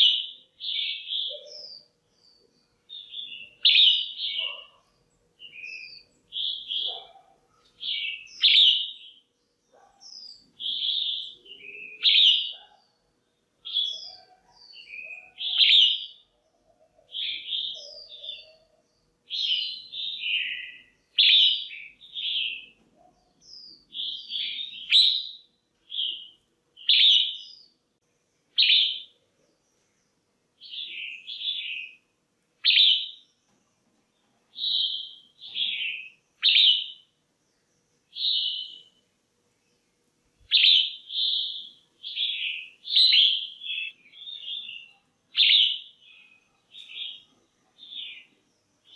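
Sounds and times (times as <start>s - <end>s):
bird chirping calls: 0.0s - 27.8s, 28.6s - 32.0s, 32.6s - 33.5s, 34.1s - 39.0s, 40.4s - 48.9s.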